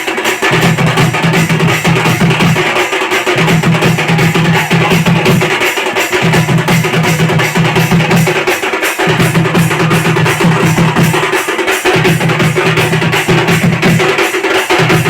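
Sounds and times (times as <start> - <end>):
fast even drumming: 0.0 - 15.0.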